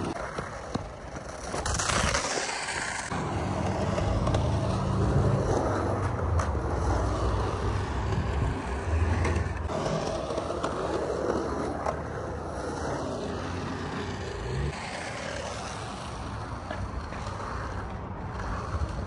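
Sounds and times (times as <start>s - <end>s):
skateboard wheels rolling on concrete: 0.0s - 19.0s.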